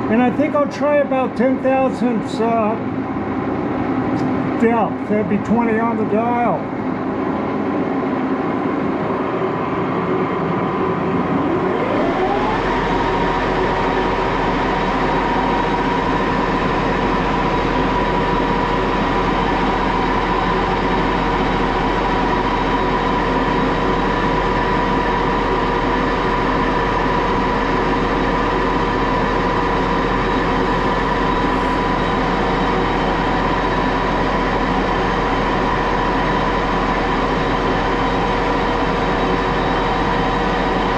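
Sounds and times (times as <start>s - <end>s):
lathe running whine: 0.0s - 40.9s.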